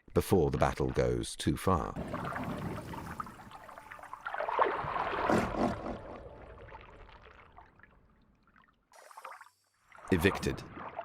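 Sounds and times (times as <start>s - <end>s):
water swishing and gurgling: 1.8s - 11.0s.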